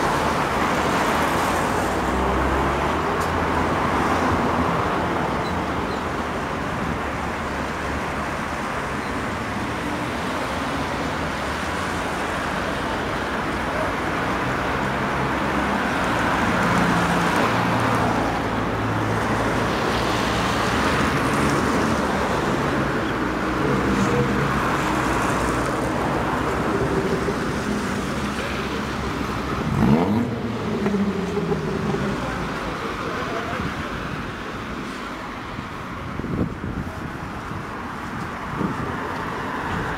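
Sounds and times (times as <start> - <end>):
cars driving past: 0.0 - 36.8.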